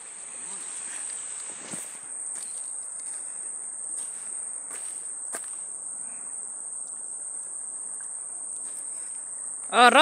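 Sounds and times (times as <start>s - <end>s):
insects shrilling: 0.0s - 10.0s.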